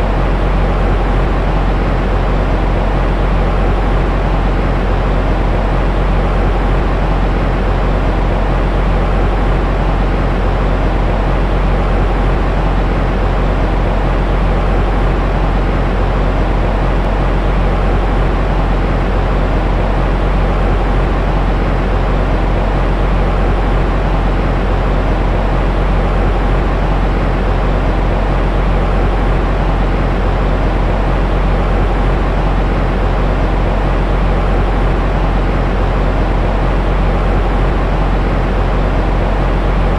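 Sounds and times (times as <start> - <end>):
white noise with deep rumble: 0.0 - 39.9.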